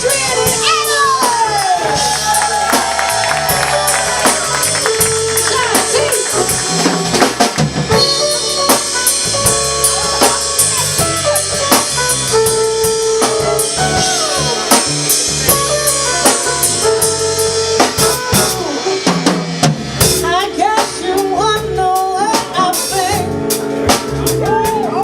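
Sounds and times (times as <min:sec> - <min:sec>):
bass line: 0:00.0 - 0:25.0
drum kit beat: 0:00.0 - 0:25.0
held melodic notes: 0:00.0 - 0:25.0.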